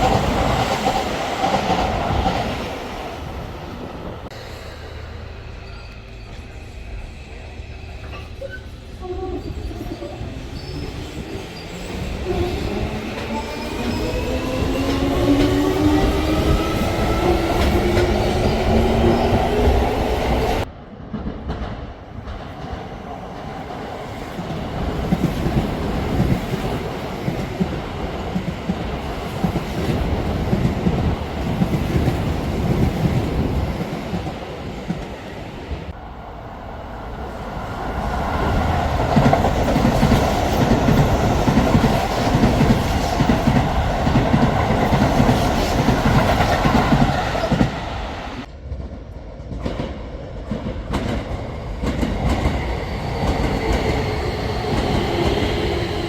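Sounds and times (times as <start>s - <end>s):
train wheels rumbling over rails: 0.0s - 56.0s.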